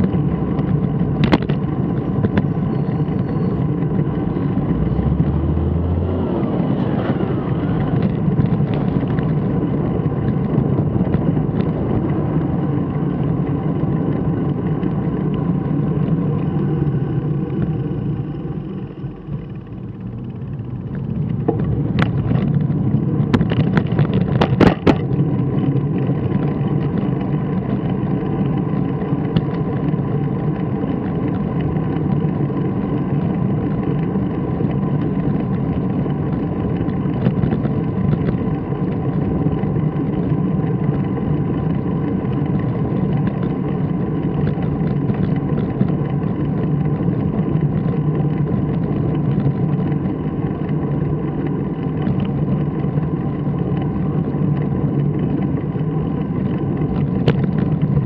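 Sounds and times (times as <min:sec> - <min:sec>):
vehicle noise: 0:00.0 - 0:58.0
wind rumble: 0:00.0 - 0:58.0.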